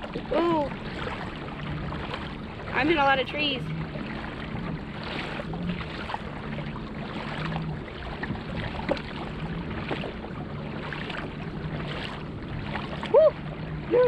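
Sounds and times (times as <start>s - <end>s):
pedal drive humming: 0.0s - 14.0s
water swishing at hull: 0.0s - 14.0s.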